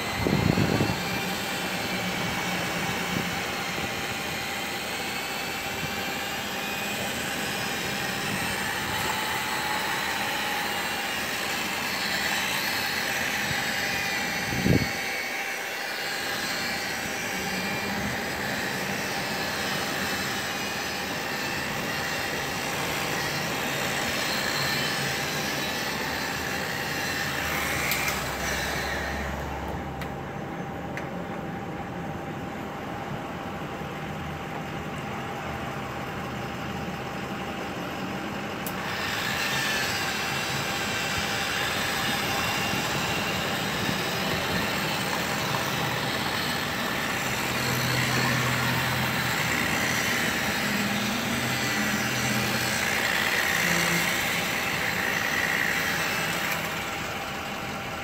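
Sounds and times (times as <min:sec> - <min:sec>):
rotary polisher motor whine: 0:00.0 - 0:58.0.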